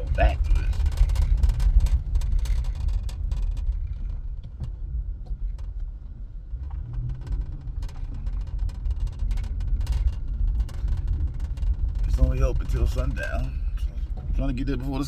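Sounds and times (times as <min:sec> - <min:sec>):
car driving on rough road: 0:00.0 - 0:15.0.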